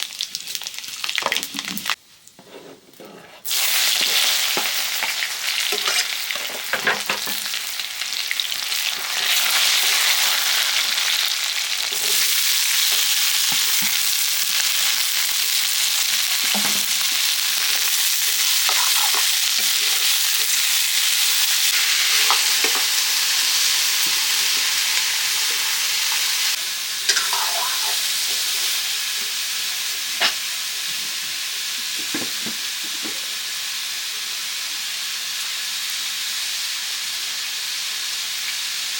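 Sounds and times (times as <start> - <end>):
food sizzling in oil: 3.4 - 38.9.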